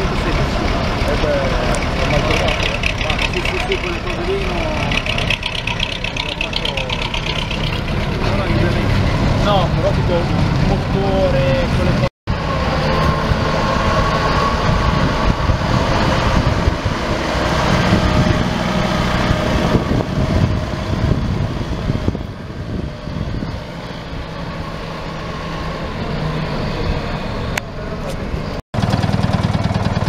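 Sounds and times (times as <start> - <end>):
truck diesel engine driving past: 0.0 - 30.0.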